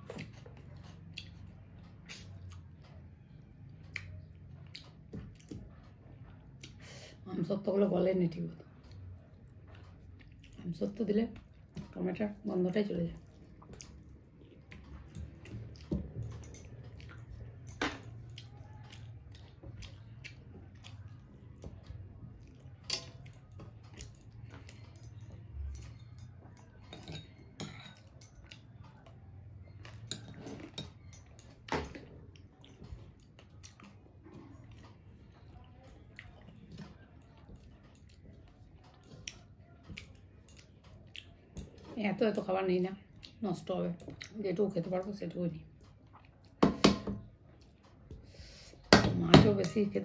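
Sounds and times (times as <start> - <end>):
chewing: 0.0 - 6.8, 8.6 - 12.0, 13.1 - 42.0, 43.0 - 43.4, 44.0 - 44.4, 45.8 - 46.6
low steady hum: 0.0 - 50.0.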